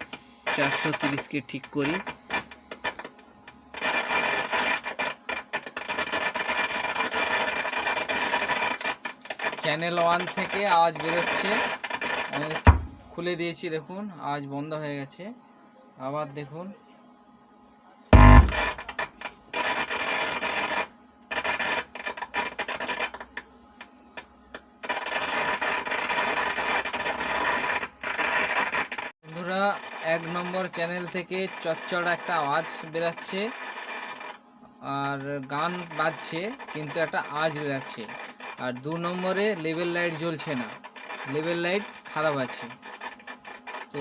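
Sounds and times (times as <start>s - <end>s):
harsh crackling from speaker: 0.0s - 13.2s, 18.2s - 23.4s, 24.2s - 44.0s.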